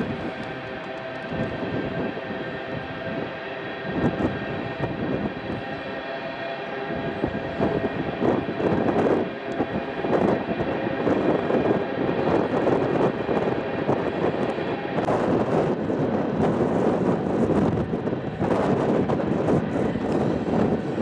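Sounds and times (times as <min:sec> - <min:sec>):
thin steady whining tones: 0:00.0 - 0:21.0
train wheels rumbling on rail: 0:00.0 - 0:21.0.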